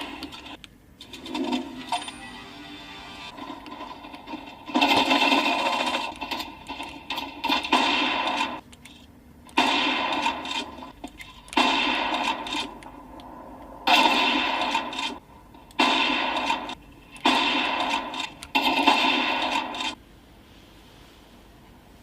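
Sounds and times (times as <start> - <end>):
quiet steady background: 0.0 - 22.0.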